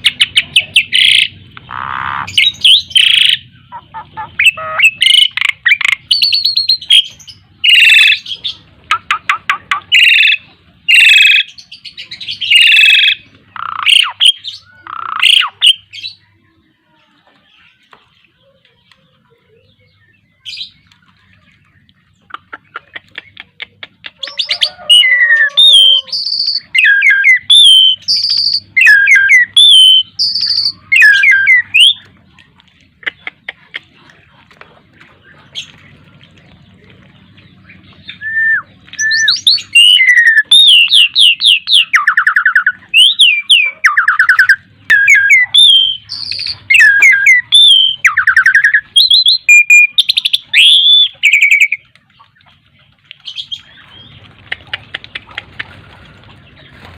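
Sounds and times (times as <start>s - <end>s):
starling singing: 0.0s - 16.3s, 17.5s - 56.9s.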